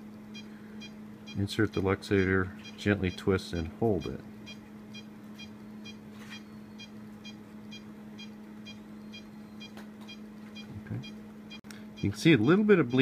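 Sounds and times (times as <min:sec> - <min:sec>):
steady low hum: 0:00.0 - 0:13.0
patient monitor pulse beeps: 0:00.3 - 0:13.0.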